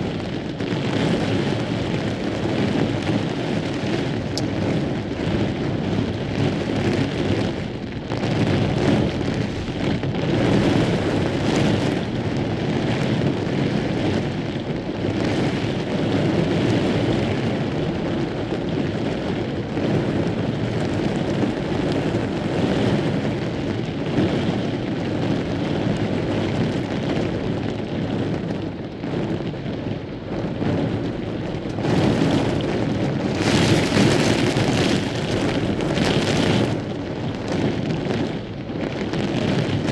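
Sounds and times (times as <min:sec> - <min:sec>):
gusting wind: 0:00.0 - 0:39.9
heavy rain pouring: 0:00.0 - 0:39.9.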